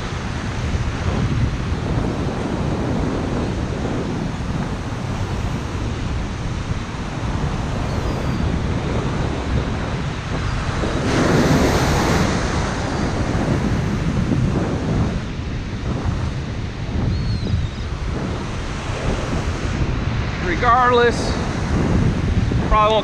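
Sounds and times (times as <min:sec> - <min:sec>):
ocean surf breaking: 0:00.0 - 0:17.1, 0:17.8 - 0:23.0
wind buffeting microphone: 0:00.0 - 0:23.0.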